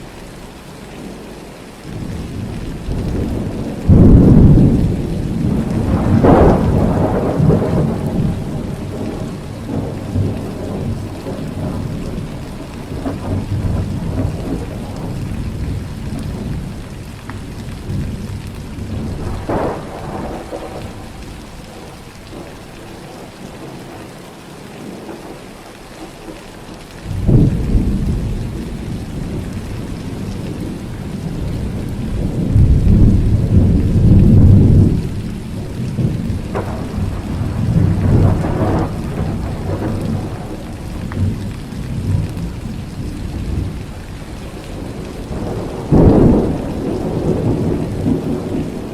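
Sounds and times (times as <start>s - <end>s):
steady rain: 0.0s - 48.9s
thunder rumbling: 1.8s - 25.4s, 26.2s - 48.9s
loud thunder clap: 2.0s - 16.7s, 17.9s - 21.6s, 27.1s - 43.8s, 44.8s - 48.9s.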